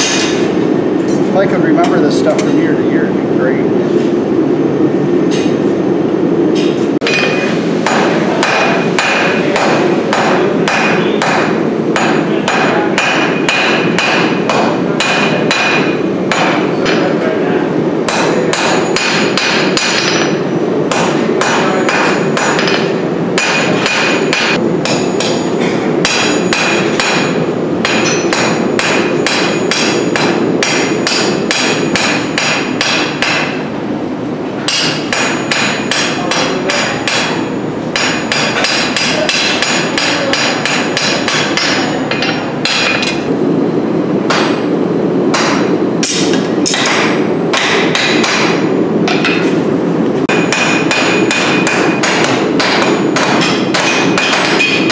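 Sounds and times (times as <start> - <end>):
hammer striking steel on anvil: 0.0 - 1.2, 6.6 - 17.1, 18.1 - 33.6, 34.7 - 43.3, 44.3 - 44.7, 45.3 - 49.6, 50.2 - 54.9.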